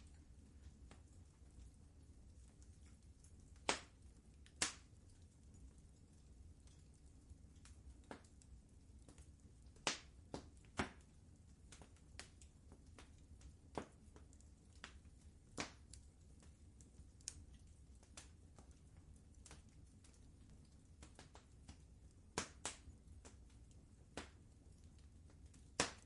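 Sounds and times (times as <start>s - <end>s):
faint low rumble: 0.0s - 26.0s
fireplace fire crackling: 0.0s - 26.0s.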